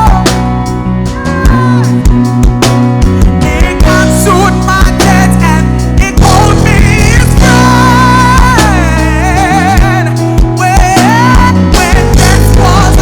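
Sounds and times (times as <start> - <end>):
live worship band music: 0.0 - 13.0
steady drum beat: 0.0 - 13.0.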